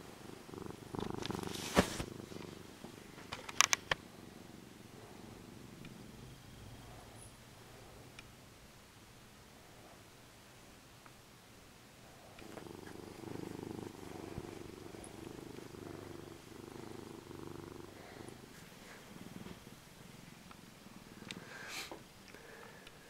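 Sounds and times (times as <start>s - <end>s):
cat purring: 0.0s - 8.2s, 12.0s - 23.0s.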